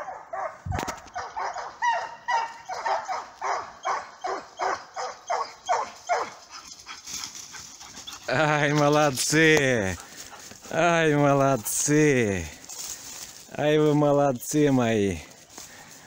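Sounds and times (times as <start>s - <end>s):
hounds baying and yelping: 0.0s - 13.4s.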